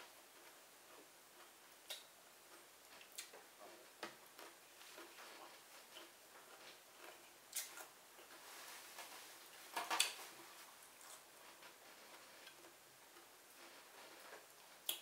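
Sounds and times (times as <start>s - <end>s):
food crackling: 0.0s - 15.0s.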